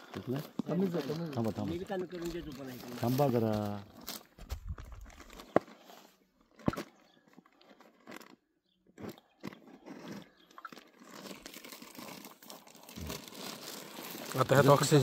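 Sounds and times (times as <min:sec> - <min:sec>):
plastic bag crinkling: 0:00.0 - 0:08.4, 0:09.5 - 0:15.0.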